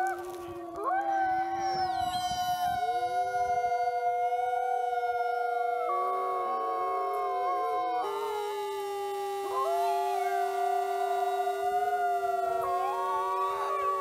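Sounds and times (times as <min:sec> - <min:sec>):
wolves howling in chorus: 0:00.0 - 0:14.0.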